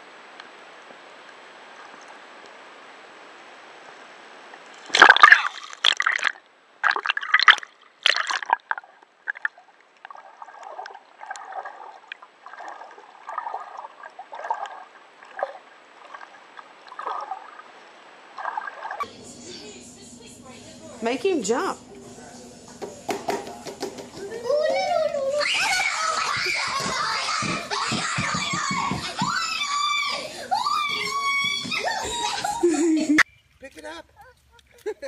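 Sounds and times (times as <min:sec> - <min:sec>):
water sounds: 0:00.0 - 0:19.1, 0:24.0 - 0:34.8.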